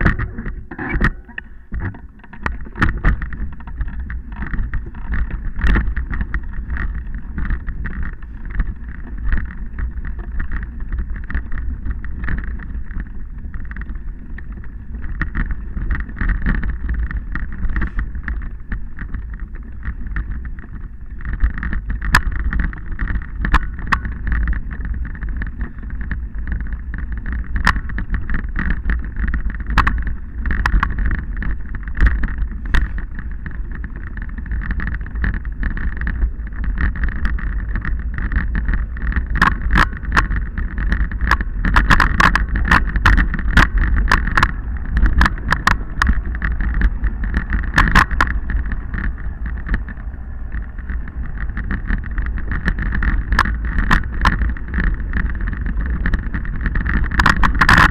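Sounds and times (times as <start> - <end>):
bike rattling over stones: 0.0 - 57.9
wind buffeting microphone: 0.0 - 57.9.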